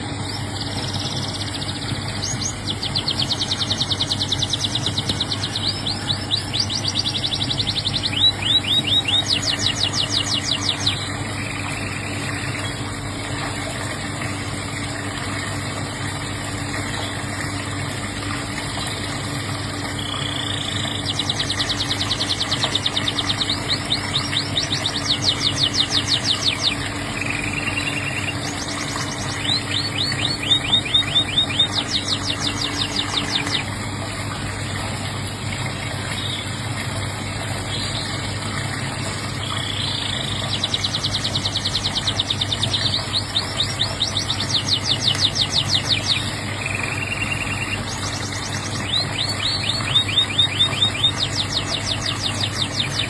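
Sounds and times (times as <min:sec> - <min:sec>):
canary singing trills: 0:00.0 - 0:13.5, 0:16.6 - 0:33.7, 0:39.3 - 0:53.0
steady low hum: 0:00.0 - 0:53.0.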